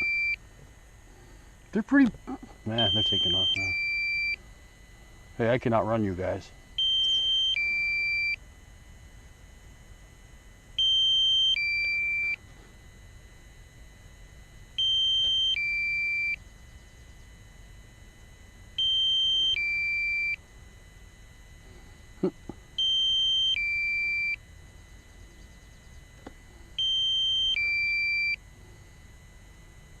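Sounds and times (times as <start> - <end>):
two-note electronic warning beeps: 0.0 - 0.4, 1.8 - 9.0, 10.7 - 30.0.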